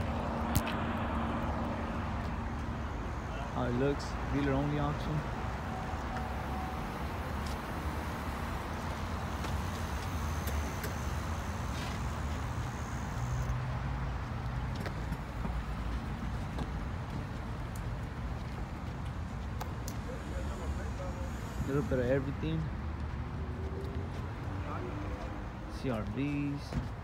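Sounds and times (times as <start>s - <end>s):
low rumble of traffic: 0.0s - 27.0s.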